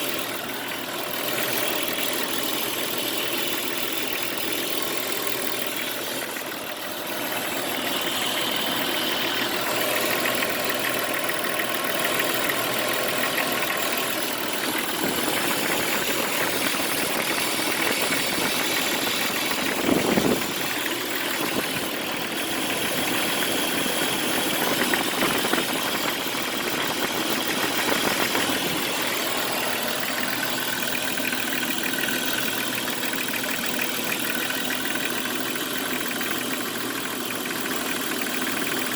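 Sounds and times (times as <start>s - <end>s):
car engine idling: 0.0s - 38.9s
engine rattle or knock: 0.0s - 38.9s.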